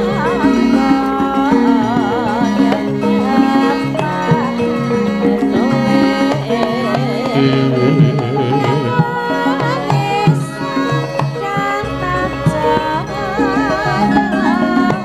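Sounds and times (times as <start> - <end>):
hand drumming: 0.0 - 15.0
metallophones playing: 0.0 - 15.0
woman singing: 0.0 - 15.0.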